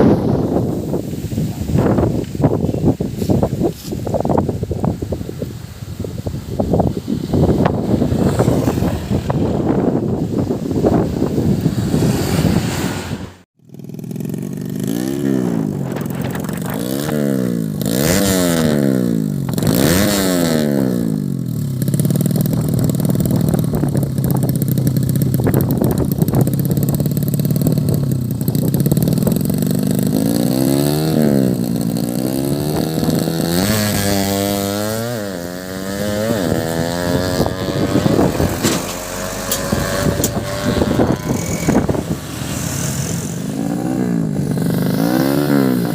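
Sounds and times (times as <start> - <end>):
motorcycle engine revving: 6.4 - 45.9.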